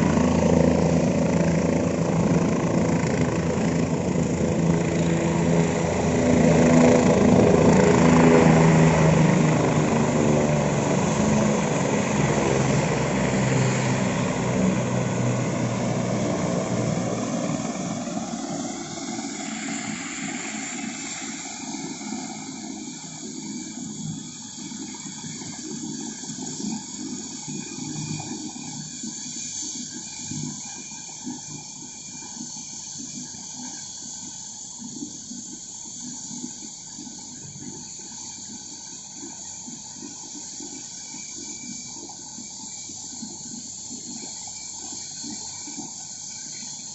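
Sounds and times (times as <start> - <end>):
helicopter drone: 0.0 - 46.9.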